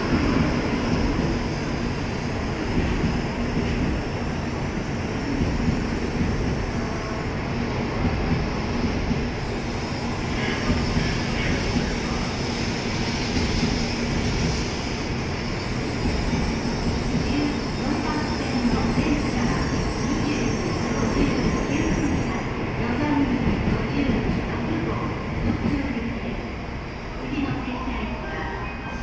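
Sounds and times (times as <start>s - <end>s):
train wheel and running noise: 0.0s - 29.0s.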